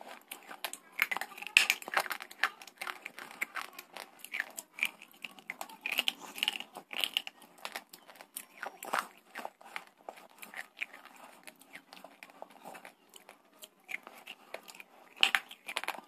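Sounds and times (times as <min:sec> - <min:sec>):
crunching and chewing hard bars: 0:00.0 - 0:16.0.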